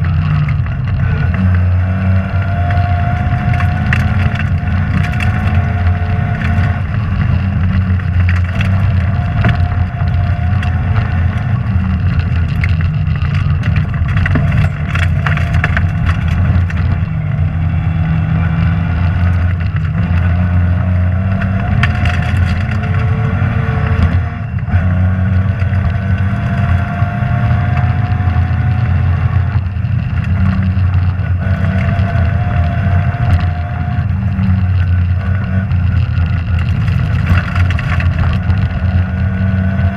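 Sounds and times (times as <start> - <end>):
rally car engine: 0.0 - 39.9
clatters and knocks from car: 2.6 - 17.2, 18.9 - 20.7, 21.3 - 23.2, 23.8 - 39.9.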